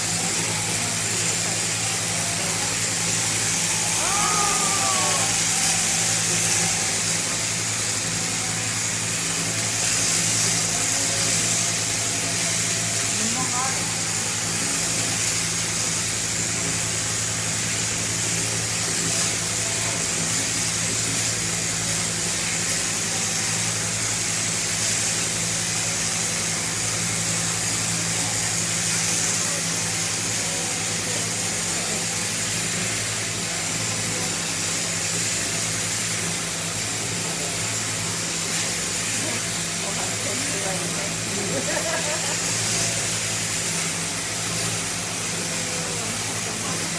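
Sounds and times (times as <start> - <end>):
shearing machine motor hum: 0.0 - 46.9.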